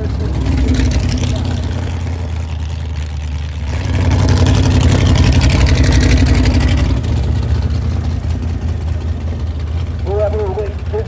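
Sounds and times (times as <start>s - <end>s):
dragster engine running slowly: 0.0s - 11.0s.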